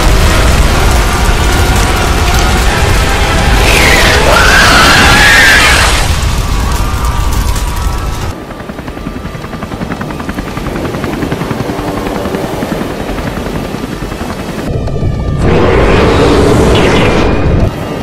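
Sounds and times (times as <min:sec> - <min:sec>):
helicopter rotor chopping: 0:00.0 - 0:18.0.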